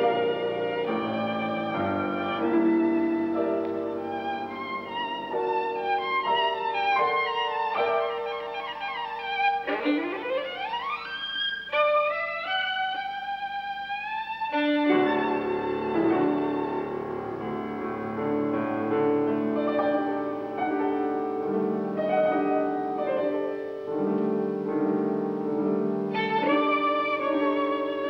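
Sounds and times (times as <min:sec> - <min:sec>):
piano chords: 0:00.0 - 0:28.0
violin: 0:00.0 - 0:28.0.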